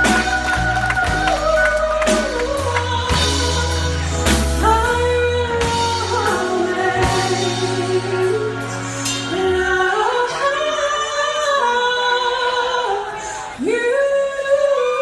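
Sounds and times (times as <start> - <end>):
low band accompaniment: 0.0 - 14.8.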